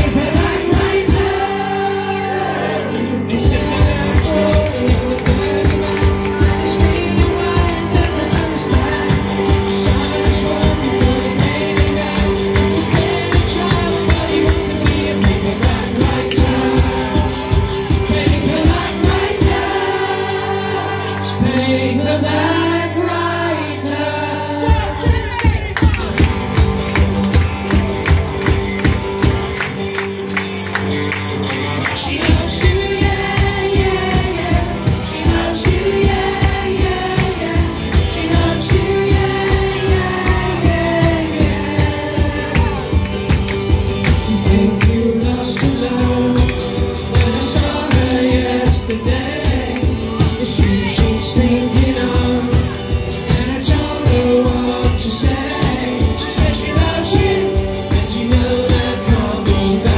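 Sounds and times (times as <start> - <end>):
steady drum beat: 0.0 - 1.9, 3.4 - 20.4, 24.7 - 29.9, 32.0 - 59.9
person singing: 0.0 - 26.2, 31.7 - 59.9
live band music: 0.0 - 59.9.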